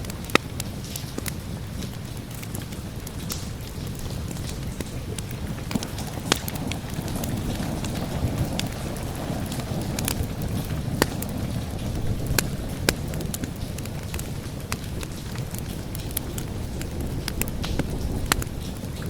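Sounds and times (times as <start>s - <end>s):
rain hissing: 0.0s - 19.0s
wood fire crackling and popping: 0.0s - 19.0s.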